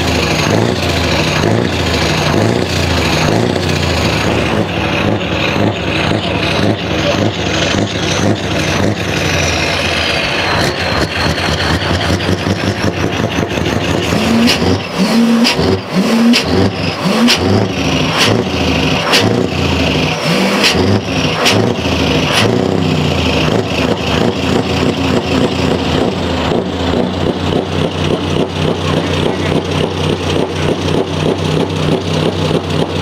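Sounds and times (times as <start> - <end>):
diesel truck engine revving: 0.0 - 33.0
sharp exhaust cracks: 0.0 - 33.0.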